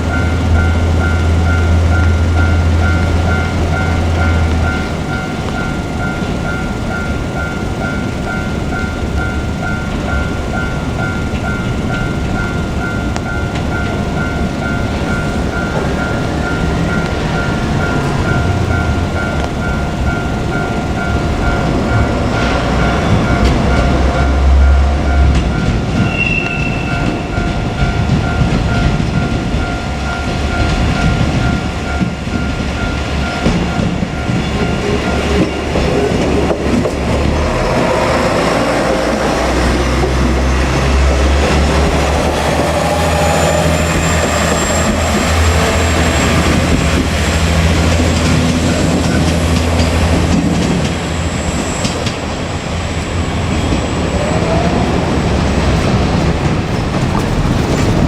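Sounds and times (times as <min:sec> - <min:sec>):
level crossing bell ringing: 0:00.0 - 0:56.6
diesel engines rumbling: 0:00.0 - 0:58.0
wheels clicking over rail joints: 0:00.0 - 0:58.0.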